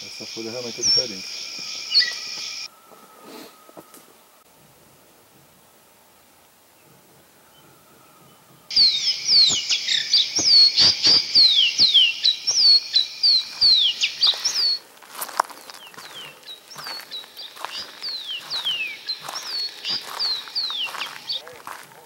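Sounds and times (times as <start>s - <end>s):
birds whistling descending notes: 0.0s - 22.0s.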